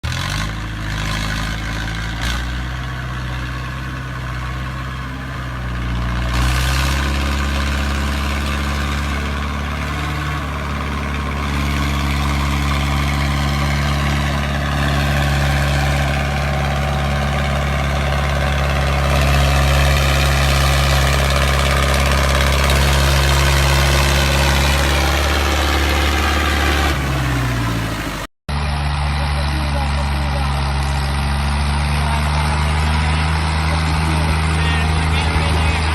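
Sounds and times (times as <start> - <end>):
diesel tractor engine under load: 0.0 - 35.9.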